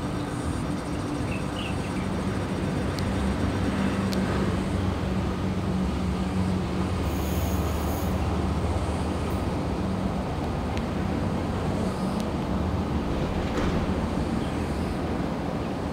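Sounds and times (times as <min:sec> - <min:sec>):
electric train hum and rumble: 0:00.0 - 0:15.9.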